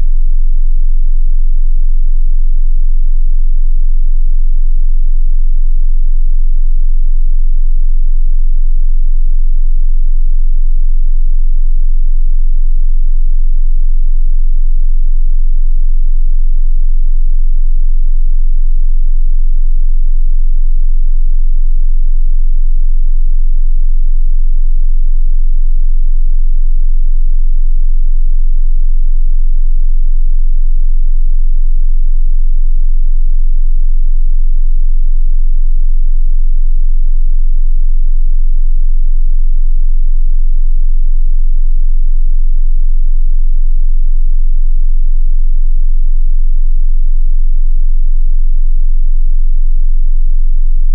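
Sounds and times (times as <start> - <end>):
deep bass test tone: 0.0 - 50.9.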